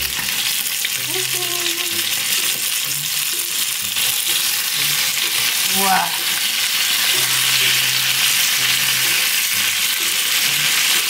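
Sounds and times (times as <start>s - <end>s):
food frying in oil: 0.0s - 11.0s.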